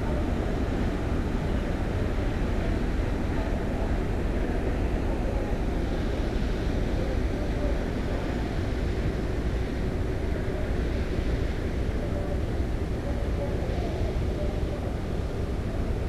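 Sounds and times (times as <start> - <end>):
propeller churning wash: 0.0 - 16.0
ship engines low rumble: 0.0 - 16.0.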